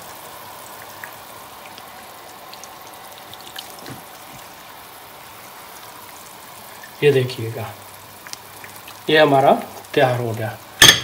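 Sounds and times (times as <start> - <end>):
light ticks and drips: 0.0 - 11.0
pot of water hissing: 0.0 - 11.0.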